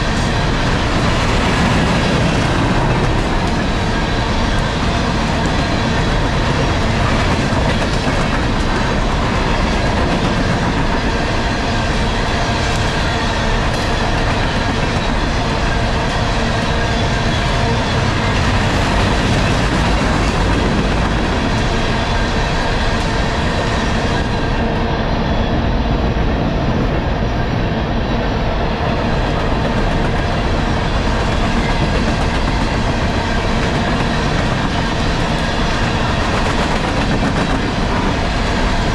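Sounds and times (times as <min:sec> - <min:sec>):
train wheels clattering on rails: 0:00.0 - 0:24.7, 0:28.7 - 0:38.9.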